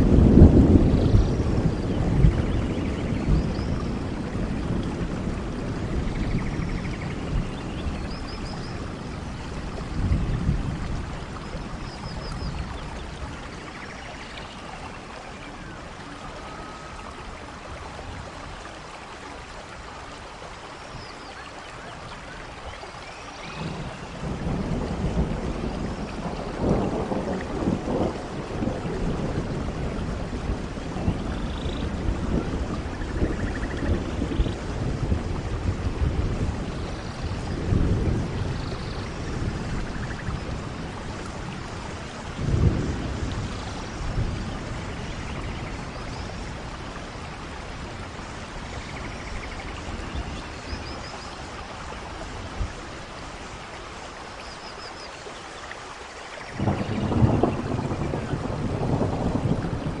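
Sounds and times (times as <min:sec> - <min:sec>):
rolling thunder: 0:00.0 - 0:18.6, 0:23.4 - 0:53.8, 0:56.5 - 1:00.0
steady rain: 0:00.0 - 1:00.0.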